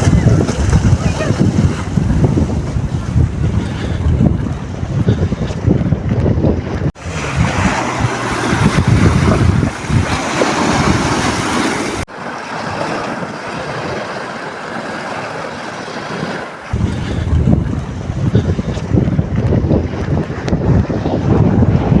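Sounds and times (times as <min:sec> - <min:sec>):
wind buffeting microphone: 0:00.0 - 0:12.1, 0:12.7 - 0:22.0.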